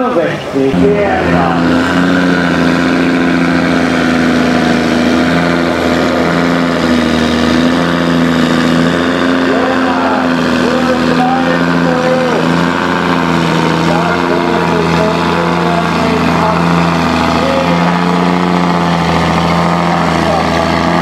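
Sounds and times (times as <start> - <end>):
tractor diesel engine droning: 0.0 - 21.0.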